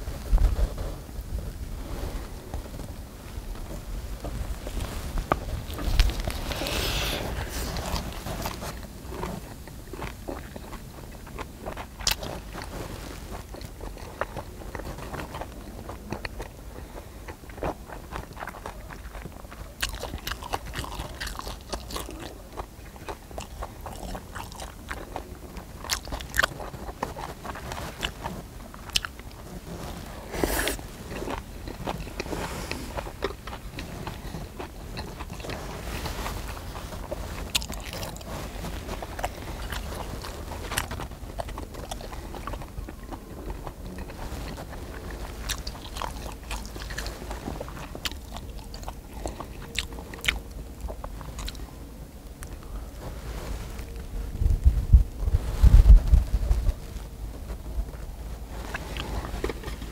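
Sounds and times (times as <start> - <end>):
chewing and biting: 3.6 - 51.7, 57.9 - 59.9.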